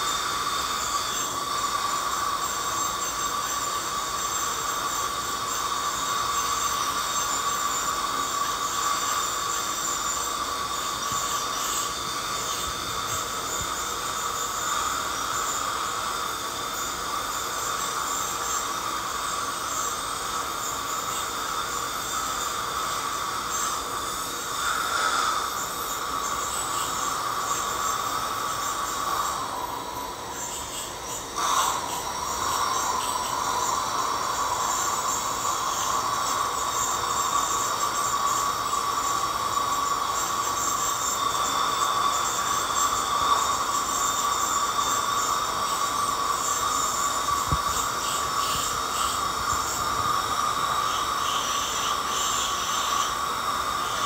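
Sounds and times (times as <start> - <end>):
ultrasonic dental scaler whine: 0.0 - 54.0.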